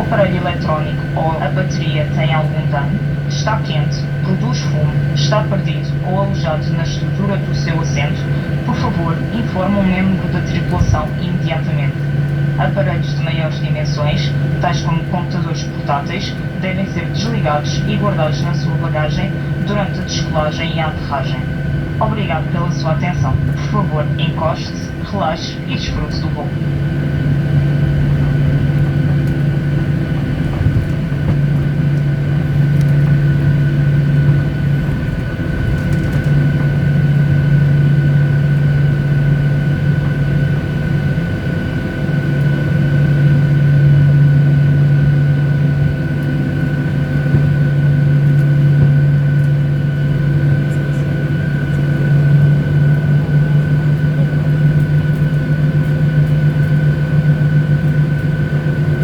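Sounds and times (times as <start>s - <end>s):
aircraft cabin engine hum: 0.0s - 59.0s.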